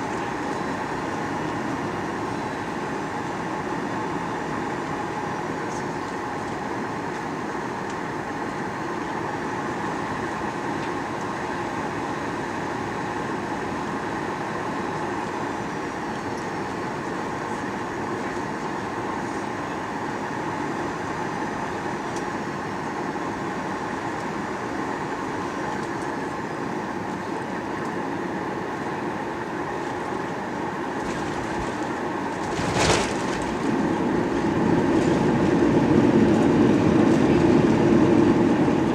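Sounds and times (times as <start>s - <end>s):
airplane cabin engine hum: 0.0s - 38.9s.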